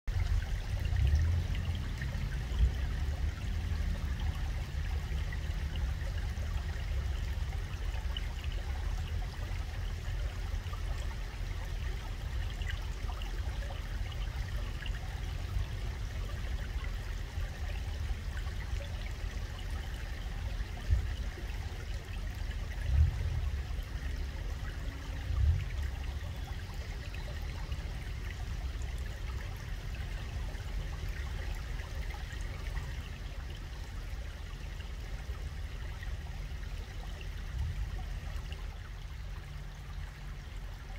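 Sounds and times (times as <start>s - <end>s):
stream water rumbling: 0.1s - 40.9s.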